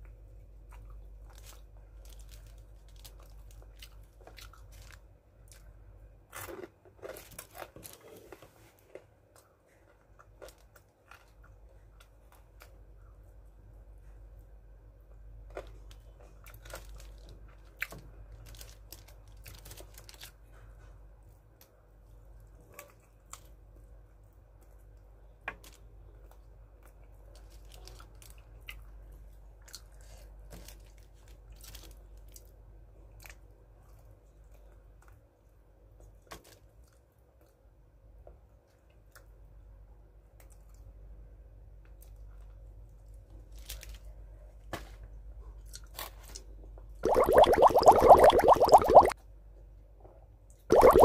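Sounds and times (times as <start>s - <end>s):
chewing crunchy fried chicken: 0.0s - 12.9s, 15.1s - 20.9s, 22.1s - 37.8s, 38.6s - 46.7s.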